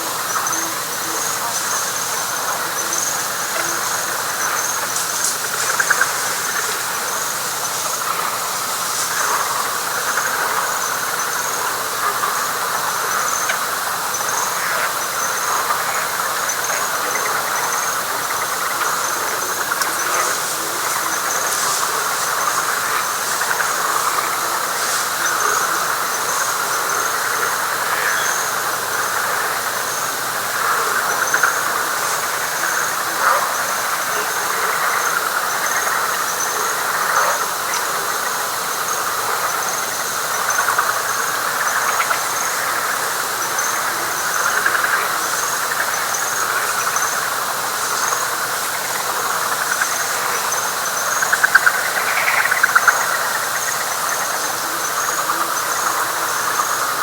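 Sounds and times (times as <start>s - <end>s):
frog chorus: 0.0s - 57.0s.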